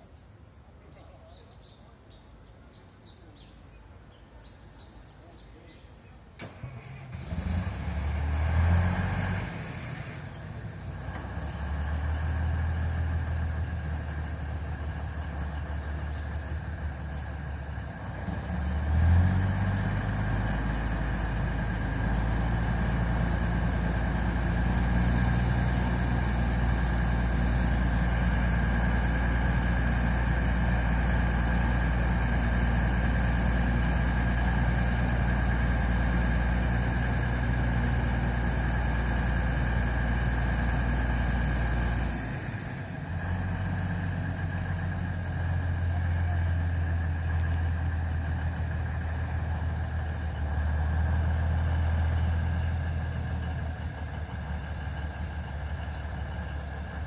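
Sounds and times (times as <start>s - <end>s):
diesel locomotive engine starting: 0.0s - 57.0s
engine high whine: 6.4s - 57.0s.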